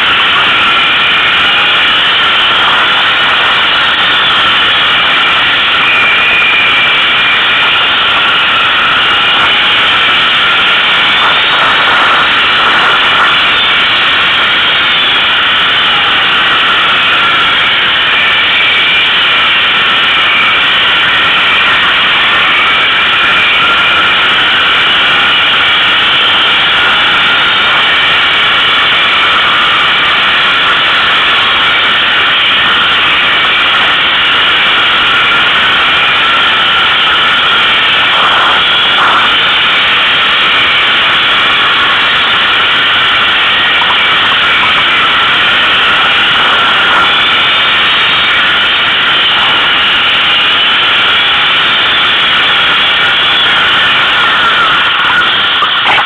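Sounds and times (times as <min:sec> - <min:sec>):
quad engine running: 0:00.0 - 0:50.6.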